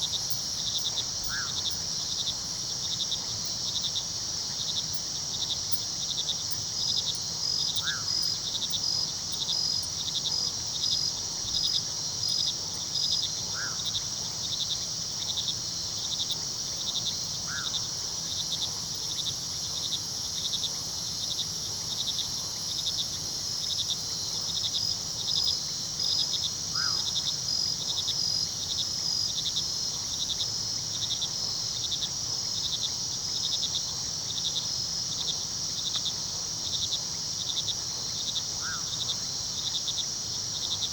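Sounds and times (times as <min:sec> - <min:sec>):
crickets chirping: 0:00.0 - 0:40.9
high insect trill: 0:00.0 - 0:40.9.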